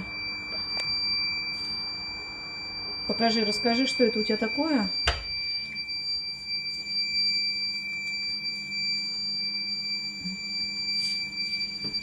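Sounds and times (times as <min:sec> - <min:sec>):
high-pitched alarm buzzer tone: 0:00.0 - 0:12.0.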